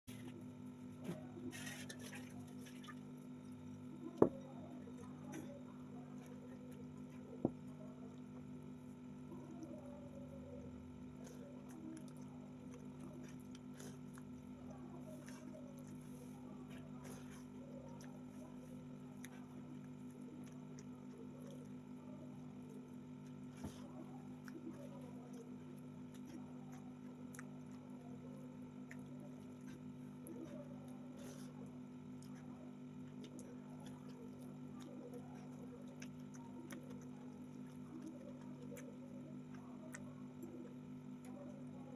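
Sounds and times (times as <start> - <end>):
steady low hum: 0.0 - 41.9
food squishing while eaten: 0.1 - 41.9.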